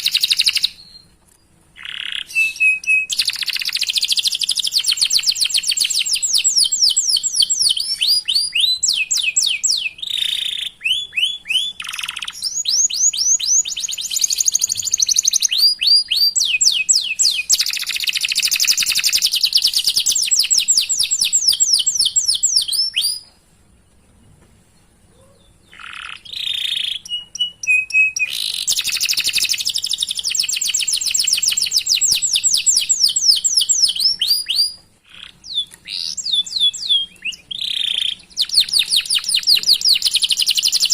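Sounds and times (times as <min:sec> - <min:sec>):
canary singing chirps and trills: 0:00.0 - 0:40.9.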